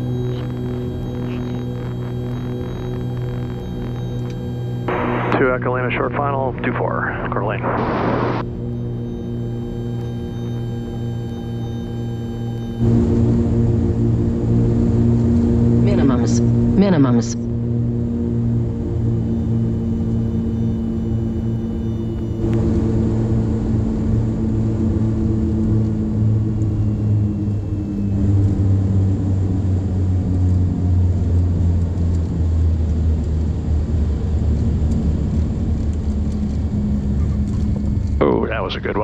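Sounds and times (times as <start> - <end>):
propeller engines droning: 0.0 - 39.0.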